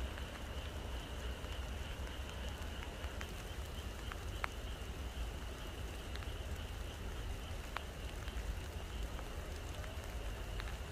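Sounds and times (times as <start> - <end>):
frogs chorus: 0.0 - 10.9
rain falling: 0.0 - 10.9
water drips ticking: 0.0 - 10.9.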